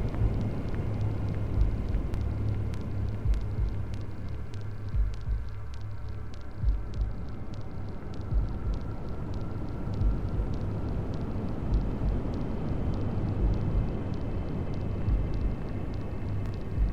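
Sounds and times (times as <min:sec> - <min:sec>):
heartbeat thumps: 0:00.0 - 0:16.9.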